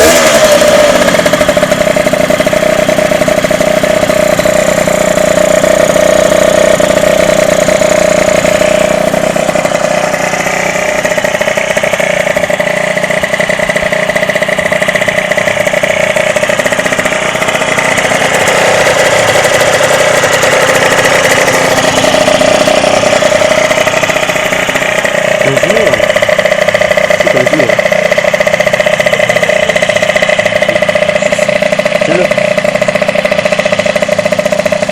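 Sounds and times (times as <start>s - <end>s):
two-stroke motorcycle engine running: 0.0s - 34.9s.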